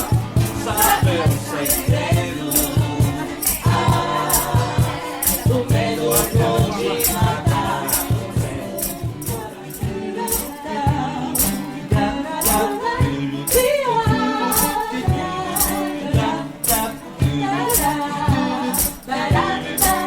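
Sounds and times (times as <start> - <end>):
bass line: 0.0 - 20.0
rattle hand percussion: 0.0 - 20.0
vocal trio singing in harmony: 0.0 - 20.0.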